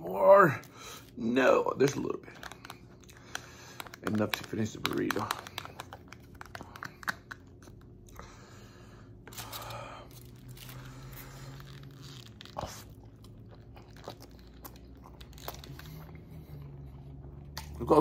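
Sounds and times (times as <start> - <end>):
person crunching and chewing food: 0.5 - 18.0.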